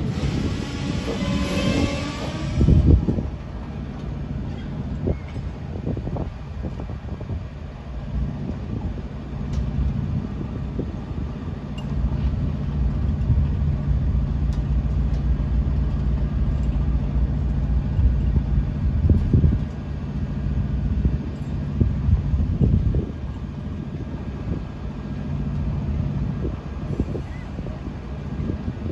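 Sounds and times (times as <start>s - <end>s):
locomotive engine droning: 0.0s - 28.9s.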